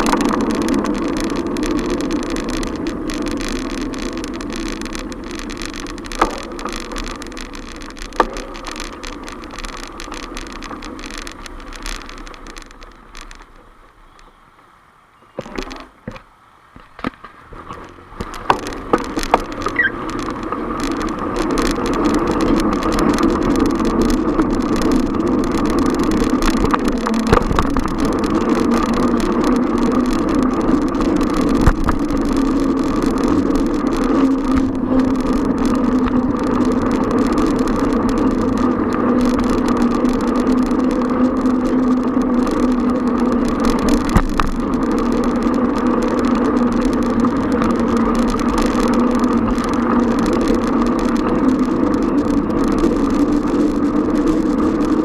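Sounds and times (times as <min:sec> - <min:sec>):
bicycle knocks: 0:00.0 - 0:14.4, 0:15.4 - 0:55.0
bicycle riding hum and rushing: 0:00.0 - 0:55.0.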